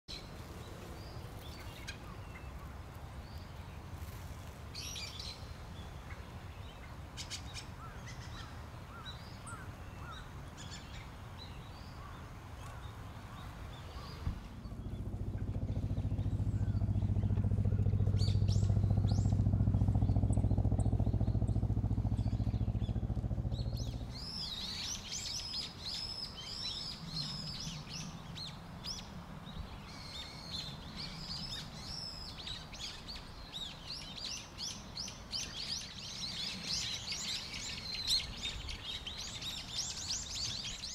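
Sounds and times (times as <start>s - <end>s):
engine humming: 0.1s - 34.2s
birds chirping and calling: 4.8s - 40.9s.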